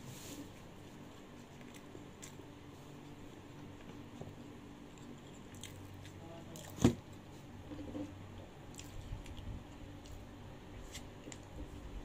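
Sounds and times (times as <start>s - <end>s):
person chewing food: 0.7s - 11.9s.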